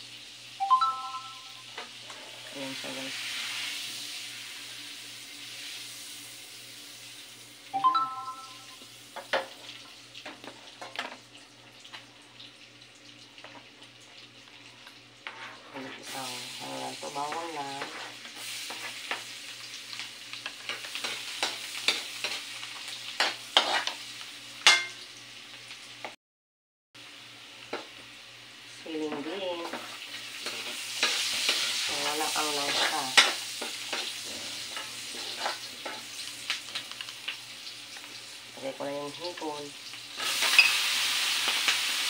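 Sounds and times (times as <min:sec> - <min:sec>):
butter sizzling in a wok: 0:00.0 - 0:00.7, 0:01.6 - 0:07.8, 0:08.6 - 0:26.2, 0:27.0 - 0:42.0.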